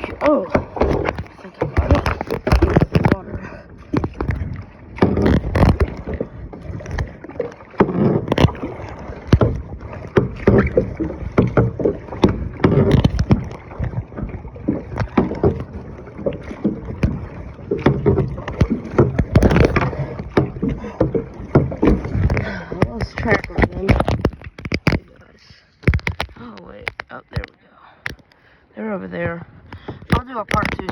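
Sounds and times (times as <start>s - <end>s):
knocks and bumps: 0.0s - 25.2s, 25.8s - 28.3s, 29.2s - 30.9s
paddle strokes splashing water: 0.0s - 30.9s.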